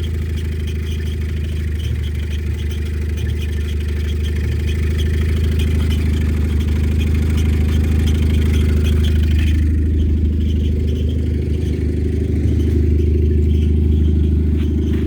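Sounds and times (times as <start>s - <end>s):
car engine idling: 0.0s - 15.0s
faint fast ticking: 0.0s - 15.0s.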